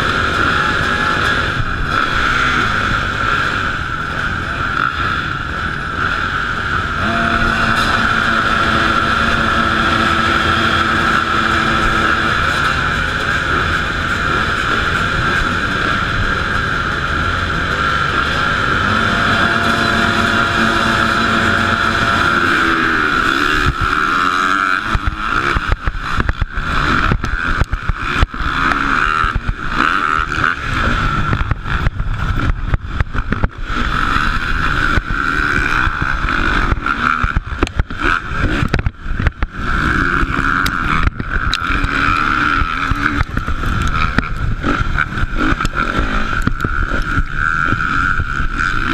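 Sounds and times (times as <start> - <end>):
motocross motorcycles racing: 0.0 - 48.9.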